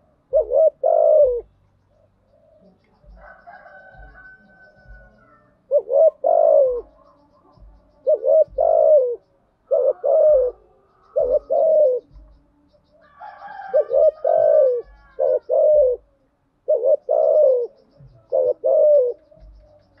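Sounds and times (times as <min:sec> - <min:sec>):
dove cooing: 0:00.0 - 0:12.4, 0:13.0 - 0:20.0.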